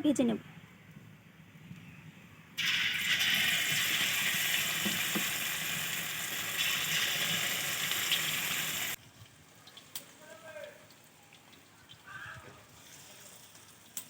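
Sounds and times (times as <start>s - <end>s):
chicken deep-frying in oil: 2.6s - 14.0s.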